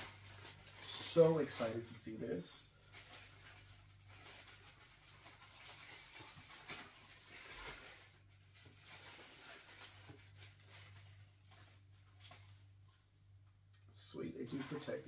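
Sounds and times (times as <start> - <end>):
packing wrap rustling and crinkling: 0.0 - 13.2, 14.4 - 15.0.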